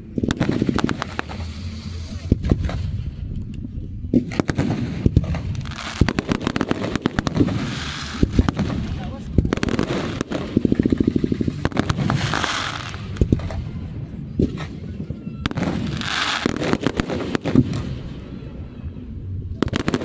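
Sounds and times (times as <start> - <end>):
fireworks hissing: 0.0 - 3.6, 4.2 - 13.8, 14.4 - 18.4
fireworks crackling pops: 0.0 - 18.4, 19.6 - 20.0
fireworks bangs: 0.0 - 20.0.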